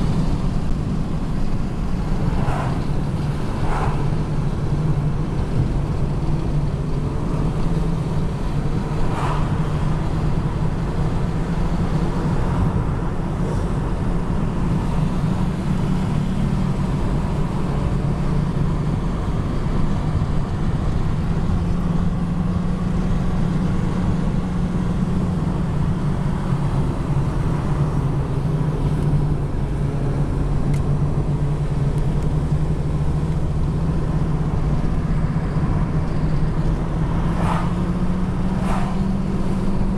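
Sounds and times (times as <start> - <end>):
car interior road hum: 0.0 - 39.9.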